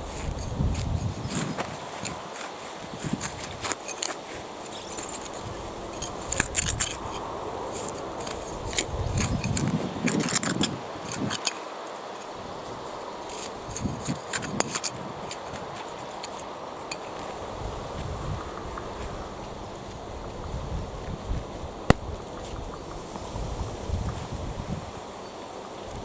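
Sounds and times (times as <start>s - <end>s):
soft rustle: 0.0s - 26.0s.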